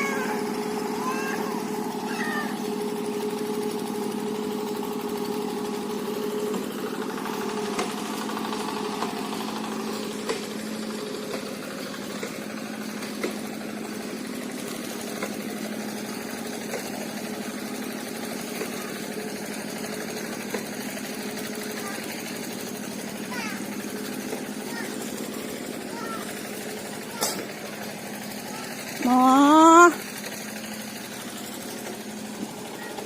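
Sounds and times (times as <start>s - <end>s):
small engine humming: 0.0s - 33.0s.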